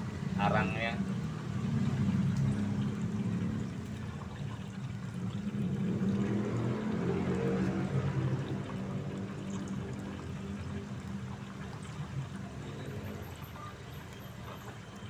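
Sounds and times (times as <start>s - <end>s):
broth bubbling in a pan: 0.0s - 15.0s
road traffic engine hum: 0.0s - 15.0s.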